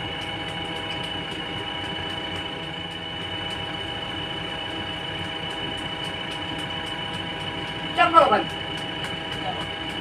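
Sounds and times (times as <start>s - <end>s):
diesel engine idling with whine: 0.0s - 10.0s.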